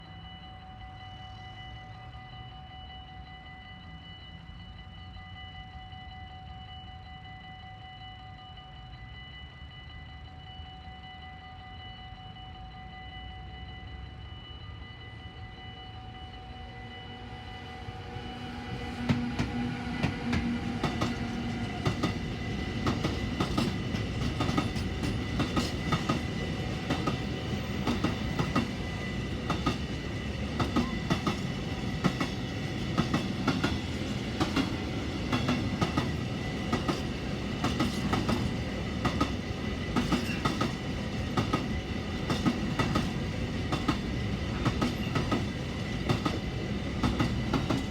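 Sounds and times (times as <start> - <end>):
freight train rumbling past: 0.0 - 47.9
steady high whining tones: 0.0 - 47.9.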